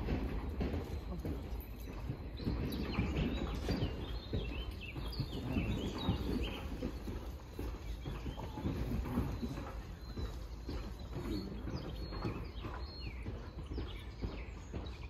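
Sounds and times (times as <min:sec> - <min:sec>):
bird chirps: 0:00.8 - 0:15.0.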